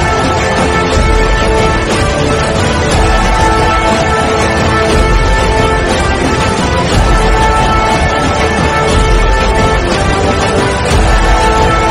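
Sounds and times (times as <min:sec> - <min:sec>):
background music with deep bass: 0:00.0 - 0:11.9.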